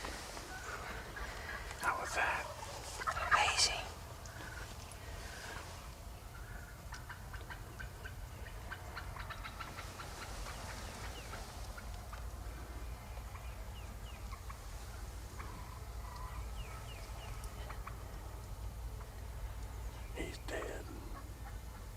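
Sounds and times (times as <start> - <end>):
turkeys gobbling: 0.1 - 21.9.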